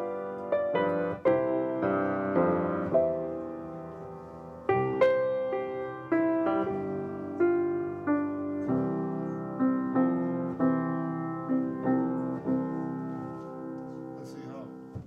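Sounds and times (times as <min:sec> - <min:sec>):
piano playing slow melody: 0:00.0 - 0:15.0.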